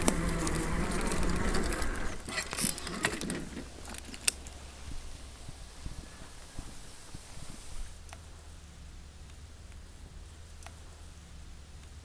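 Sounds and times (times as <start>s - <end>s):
bicycle rumbling on dirt path: 0.0s - 12.0s.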